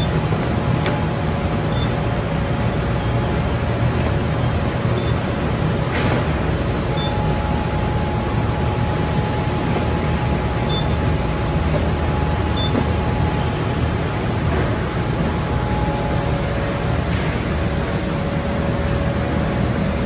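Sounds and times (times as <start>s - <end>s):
conveyor line rumble and whine: 0.0s - 20.0s.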